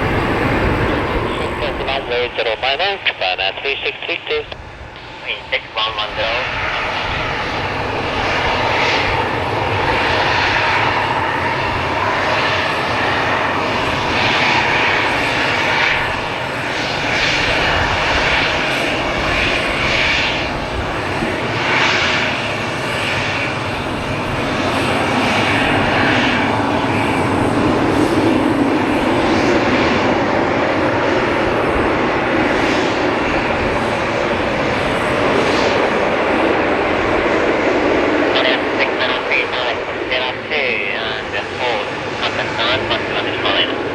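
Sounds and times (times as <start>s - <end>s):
jet airliner engines: 0.0s - 43.9s.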